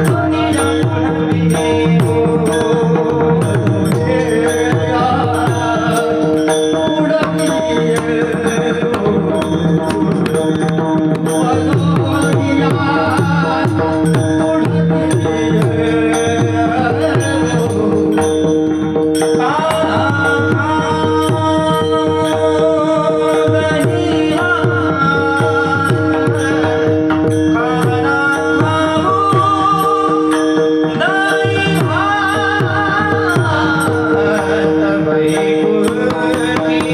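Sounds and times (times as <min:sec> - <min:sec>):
hand drum fast rhythm: 0:00.0 - 0:36.9
person singing: 0:00.0 - 0:36.9.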